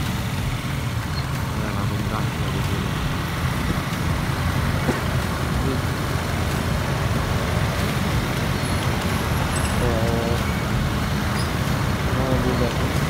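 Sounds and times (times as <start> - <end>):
scooters and cars idling and passing: 0.0 - 13.0.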